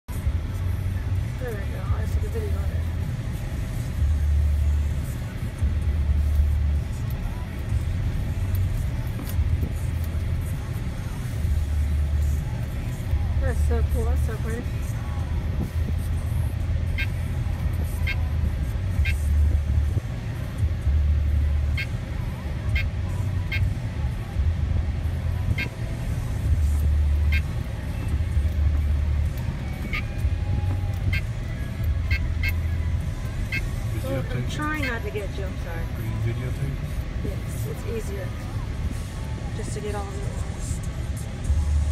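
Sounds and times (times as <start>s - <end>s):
car rumble from inside cabin: 0.0s - 41.9s.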